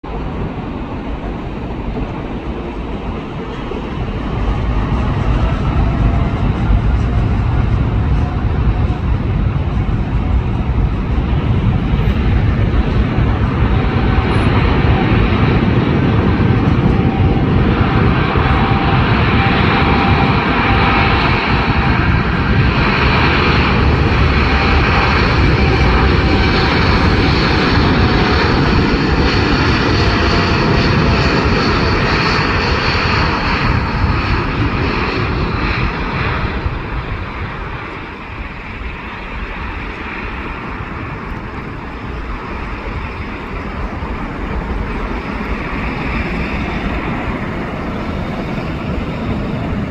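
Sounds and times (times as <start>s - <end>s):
jet engines at takeoff: 0.0s - 49.9s.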